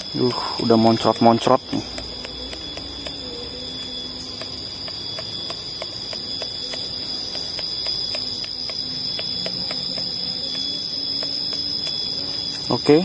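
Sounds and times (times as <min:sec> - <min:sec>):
high-pitched drone: 0:00.0 - 0:13.0.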